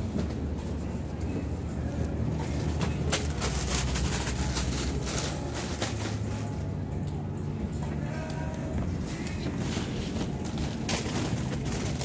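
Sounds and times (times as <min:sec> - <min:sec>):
supermarket background rumble: 0:00.0 - 0:12.0.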